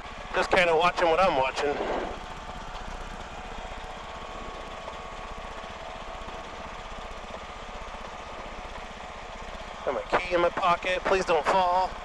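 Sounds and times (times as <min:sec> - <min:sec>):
aircraft engine idling: 0:00.0 - 0:12.0.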